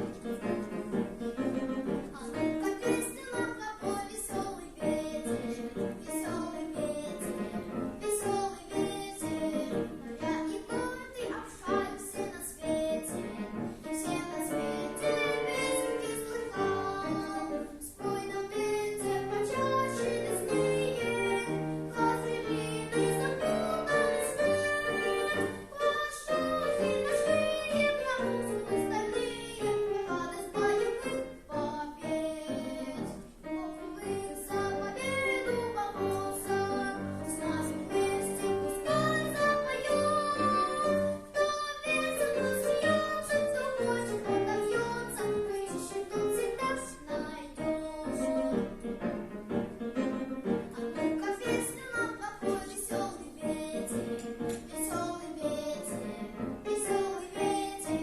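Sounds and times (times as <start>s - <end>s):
instrumental accompaniment: 0.0s - 58.0s
boy singing classically: 1.9s - 48.7s, 50.6s - 58.0s.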